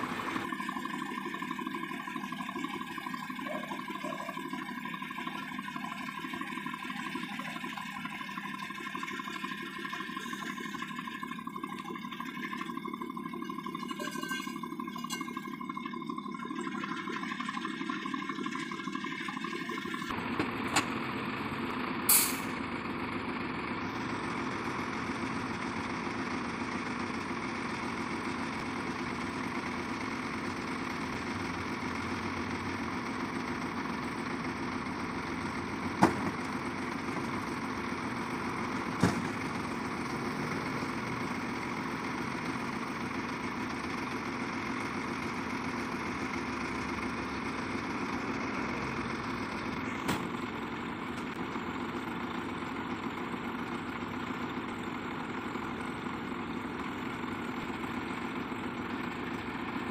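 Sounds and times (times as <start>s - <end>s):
diesel truck engine idling: 0.0s - 13.8s, 19.9s - 59.9s.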